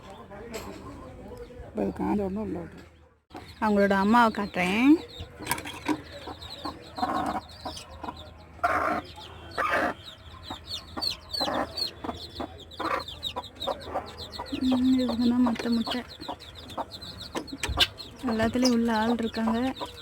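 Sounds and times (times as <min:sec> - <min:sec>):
chickens clucking: 0:00.0 - 0:20.0
chicks peeping: 0:03.3 - 0:20.0.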